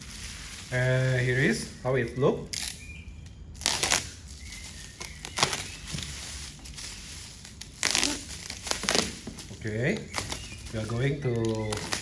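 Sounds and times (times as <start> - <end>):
packaging rustling and crinkling: 0.0 - 1.8, 3.5 - 12.0.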